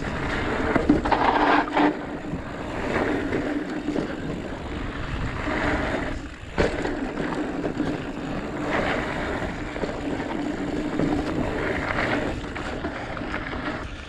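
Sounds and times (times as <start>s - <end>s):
tyres rumbling over dirt: 0.0s - 14.0s
wind buffeting microphone: 0.0s - 14.0s.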